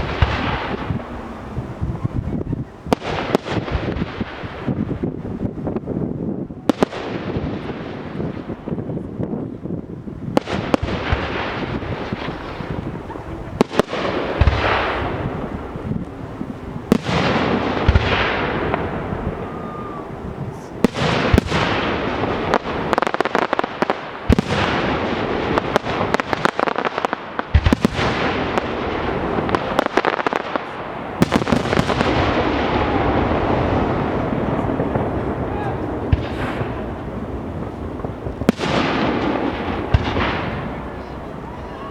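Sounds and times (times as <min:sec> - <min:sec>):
fireworks bursts and bangs: 0:00.0 - 0:41.9
fireworks crackling: 0:00.0 - 0:41.9.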